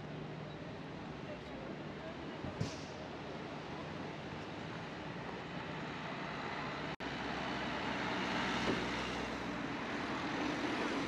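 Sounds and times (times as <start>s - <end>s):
steady traffic hum: 0.0s - 11.0s.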